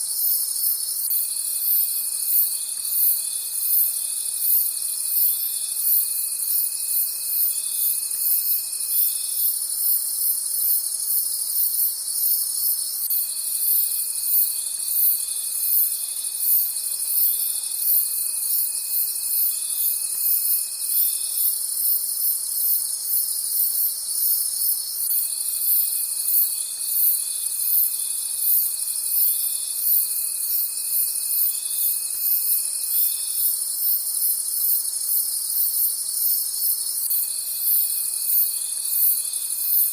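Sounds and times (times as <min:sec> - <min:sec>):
crickets chirping: 0:00.0 - 0:39.9
low steady insect trill: 0:00.0 - 0:39.9.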